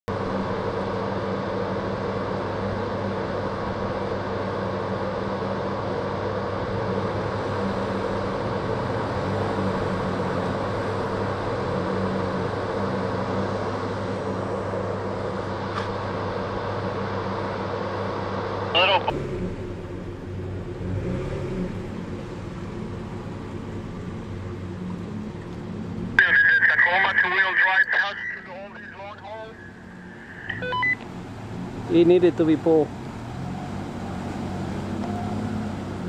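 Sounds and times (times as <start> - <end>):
road and water noise: 0.0 - 36.0
vehicle engine droning: 0.1 - 36.0.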